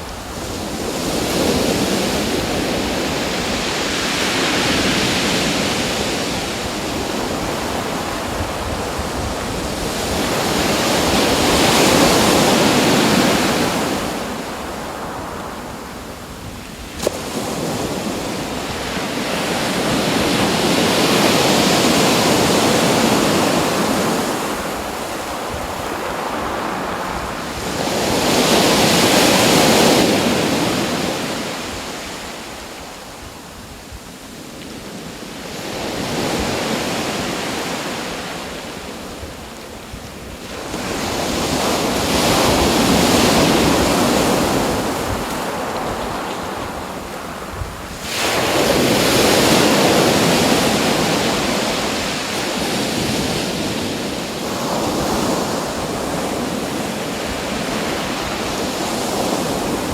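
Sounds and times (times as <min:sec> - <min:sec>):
ocean waves breaking: 0:00.0 - 0:32.8, 0:34.9 - 0:59.9.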